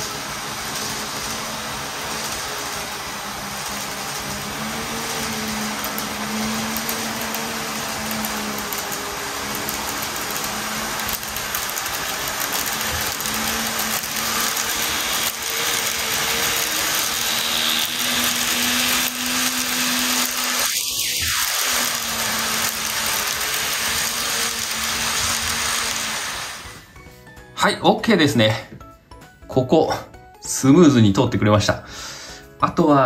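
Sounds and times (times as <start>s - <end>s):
wheels clicking over rail joints: 0.0s - 26.5s
model train motor whine: 0.0s - 26.9s.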